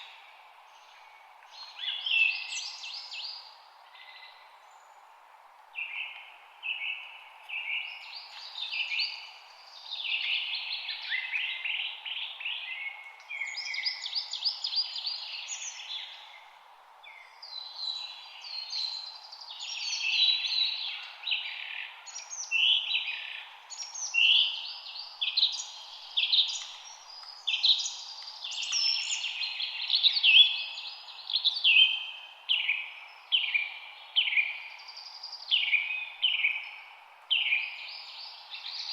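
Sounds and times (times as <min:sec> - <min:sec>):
faint background hiss: 0:00.0 - 0:38.9
songbirds chirping and singing: 0:05.8 - 0:38.9.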